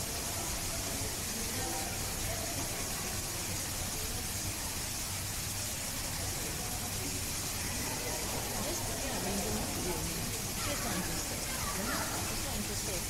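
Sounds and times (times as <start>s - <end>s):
background hiss: 0.0s - 13.0s
faint indistinct voices: 0.0s - 13.0s.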